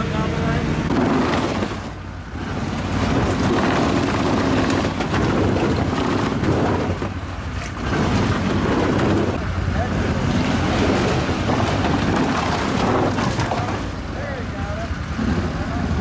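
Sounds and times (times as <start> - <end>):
vehicle engine running under load: 0.0 - 16.0.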